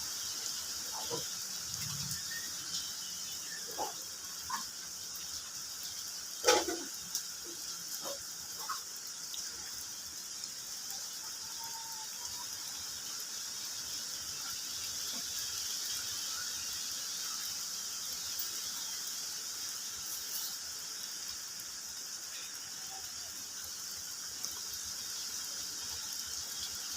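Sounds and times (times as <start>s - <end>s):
high-pitched outdoor hiss: 0.0s - 26.9s.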